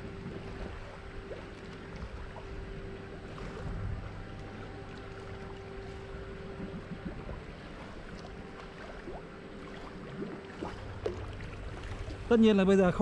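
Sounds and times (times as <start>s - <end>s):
water splashing from swimmer: 0.0s - 12.3s
faint steady hum: 0.0s - 13.0s.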